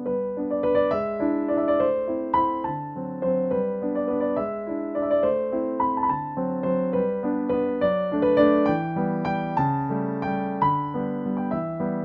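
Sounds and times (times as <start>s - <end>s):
piano piece: 0.0s - 12.0s.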